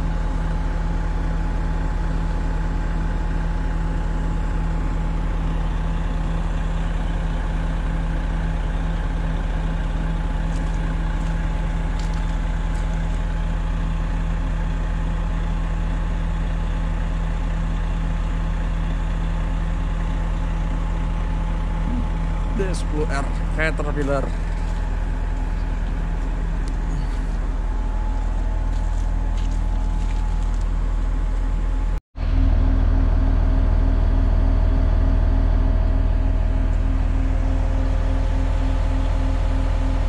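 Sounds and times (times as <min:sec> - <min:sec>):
diesel engines idling: 0:00.0 - 0:40.0.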